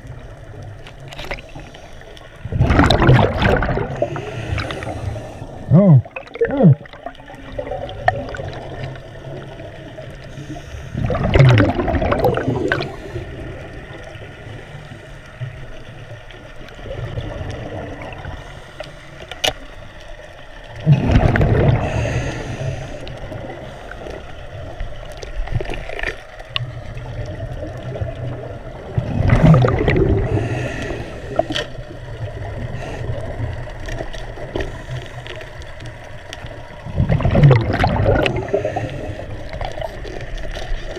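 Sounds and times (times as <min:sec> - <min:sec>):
low underwater rumble: 0:00.0 - 0:40.9
gurgling exhaled bubbles: 0:02.4 - 0:18.6, 0:20.6 - 0:40.9.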